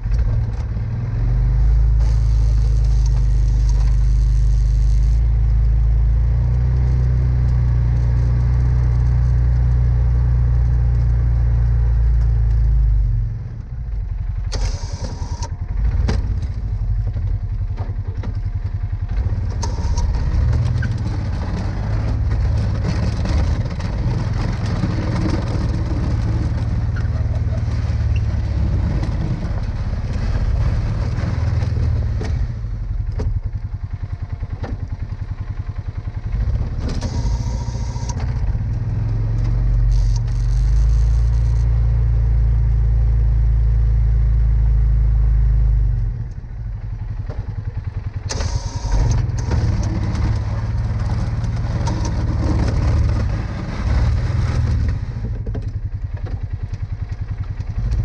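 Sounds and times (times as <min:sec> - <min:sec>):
atv engine running under load: 0:00.0 - 0:58.0.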